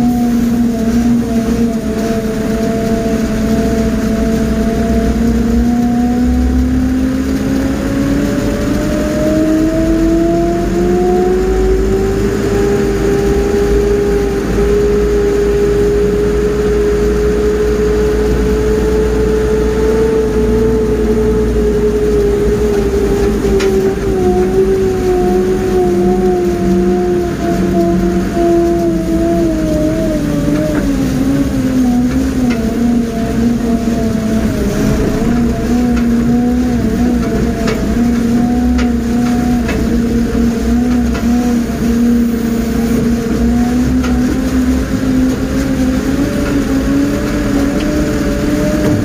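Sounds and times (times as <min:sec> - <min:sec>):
crane engine running: 0:00.0 - 0:49.0.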